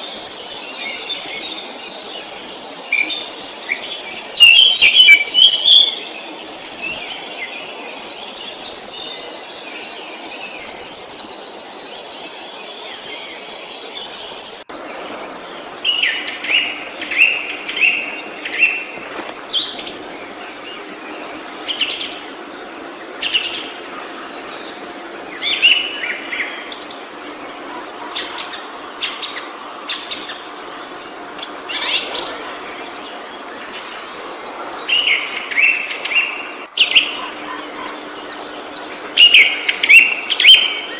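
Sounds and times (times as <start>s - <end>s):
songbirds singing: 0.0s - 40.9s
steady background hiss: 0.0s - 40.9s.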